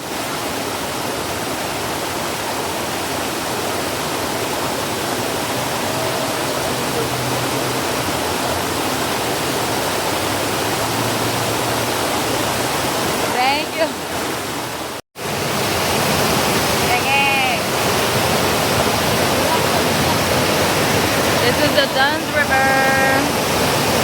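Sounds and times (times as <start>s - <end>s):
water cascading over rocks: 0.0s - 24.0s.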